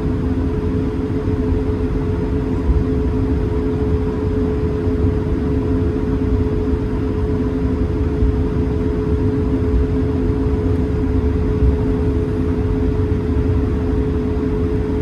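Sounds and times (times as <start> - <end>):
jet engines idling hum: 0.0 - 15.0
low cabin rumble: 0.0 - 15.0.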